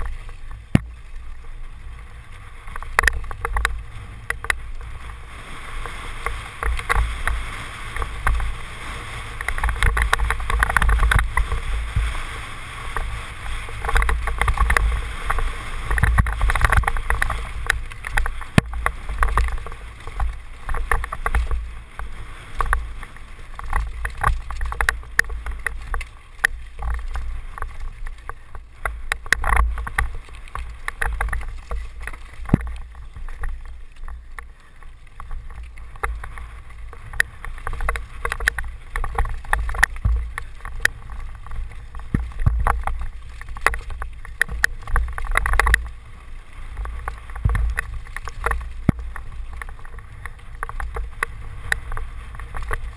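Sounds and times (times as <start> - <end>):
bike knocking and rattling on stones: 0.0 - 52.9
bike tyres on loose rocky dirt: 0.0 - 52.9.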